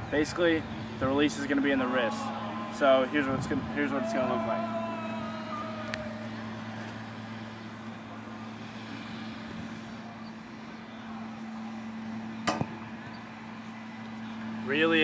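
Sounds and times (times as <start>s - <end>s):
outdoor background noise: 0.0s - 15.0s
steady low hum: 0.0s - 15.0s.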